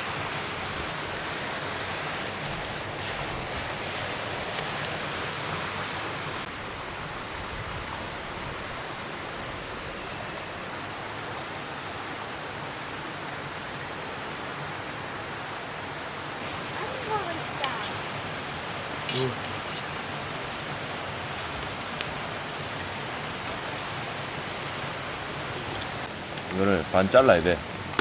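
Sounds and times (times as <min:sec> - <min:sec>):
stream flowing over rocks: 0:00.0 - 0:09.8, 0:10.5 - 0:28.0.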